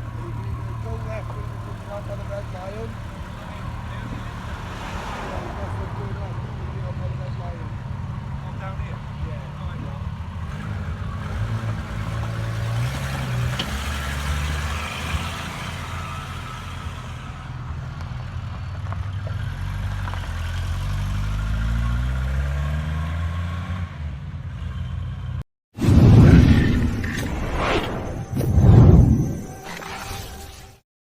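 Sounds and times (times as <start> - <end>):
car engine accelerating: 0.0 - 25.4.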